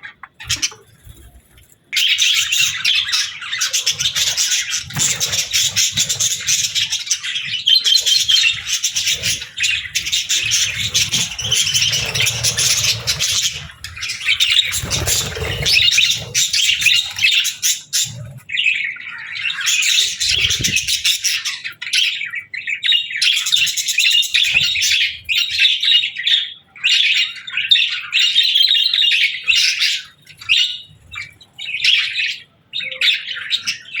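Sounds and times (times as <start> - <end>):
budgerigars chirping and chattering: 0.0 - 34.0.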